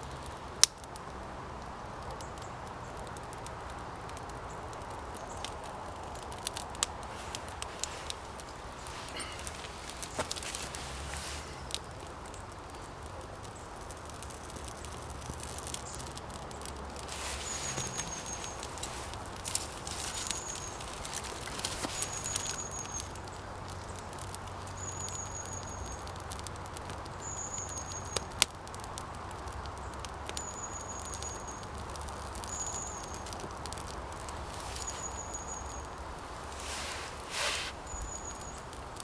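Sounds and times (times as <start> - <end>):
light crackles and clicks: 0.0 - 39.0
steady hiss: 0.0 - 39.0.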